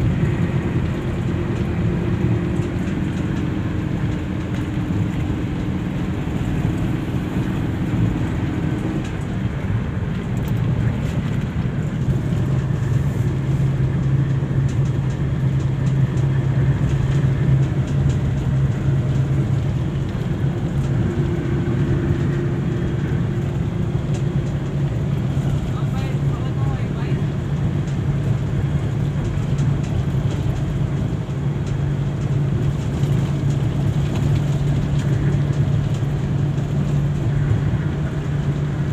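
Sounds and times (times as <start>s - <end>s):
road noise: 0.0s - 38.9s
vehicle engine drone: 0.0s - 38.9s.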